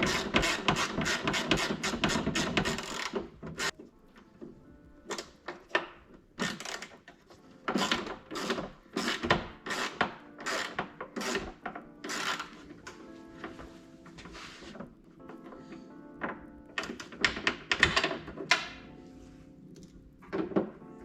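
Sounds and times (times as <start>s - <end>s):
tools clicking and clunking: 0.0s - 18.9s, 19.8s - 20.9s.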